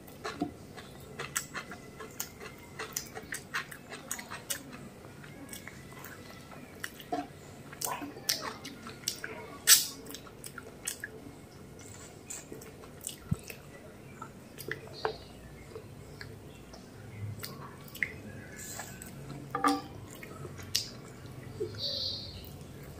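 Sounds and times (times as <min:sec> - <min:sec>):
wet chewing and mouth sounds: 0:00.0 - 0:21.8.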